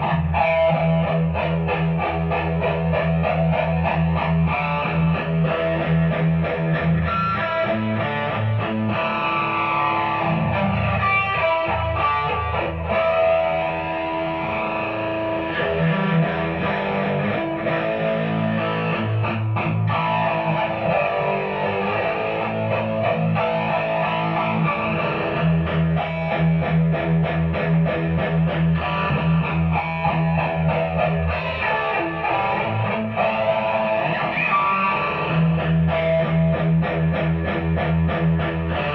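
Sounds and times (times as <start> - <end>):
electric guitar notes and chords: 0.0 - 38.9.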